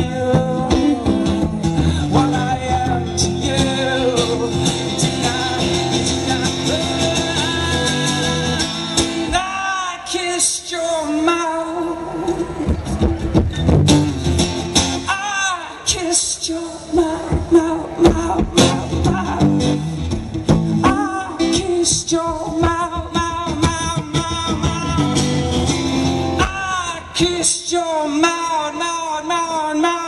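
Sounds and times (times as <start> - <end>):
man singing: 0.0 - 12.6, 15.0 - 30.0
strummed acoustic guitar: 0.0 - 30.0.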